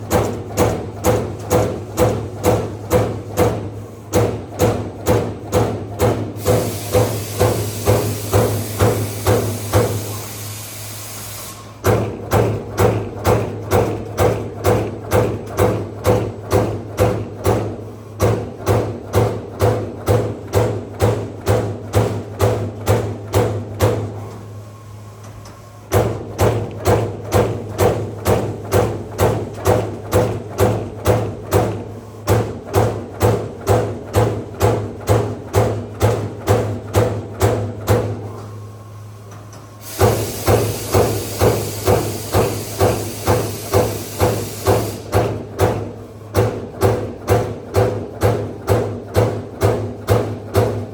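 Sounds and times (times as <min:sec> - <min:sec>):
punch machine punching sheet metal: 0:00.0 - 0:10.4, 0:11.5 - 0:24.2, 0:25.9 - 0:38.2, 0:39.8 - 0:50.9.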